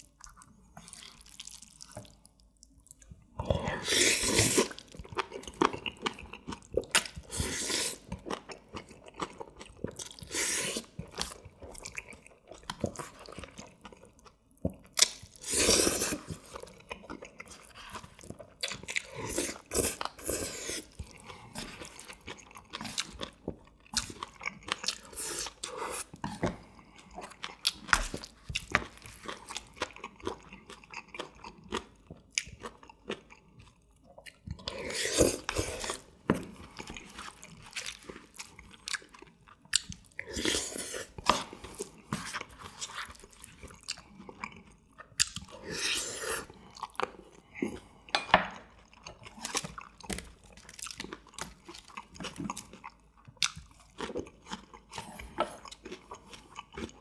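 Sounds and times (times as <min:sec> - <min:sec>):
wet chewing and biting: 0:03.9 - 0:47.3, 0:48.6 - 0:57.0.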